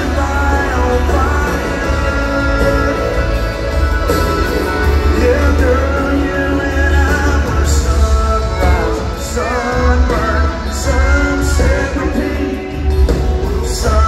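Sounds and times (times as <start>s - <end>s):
live country band playing: 0.0s - 14.0s
person singing: 0.0s - 14.0s.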